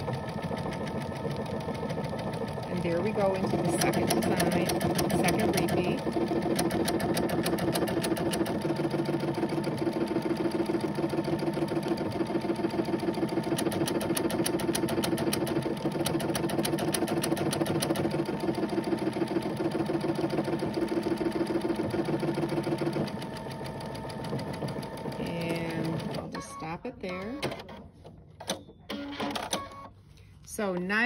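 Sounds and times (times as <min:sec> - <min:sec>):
sewing machine stitching: 0:00.0 - 0:27.8.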